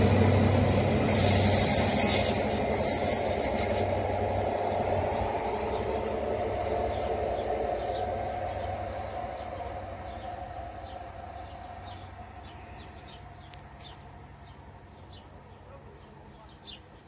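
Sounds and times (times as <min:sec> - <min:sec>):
train diesel engine: 0:00.0 - 0:17.0
train wheels on rails: 0:00.0 - 0:17.0
birds chirping: 0:01.6 - 0:17.0.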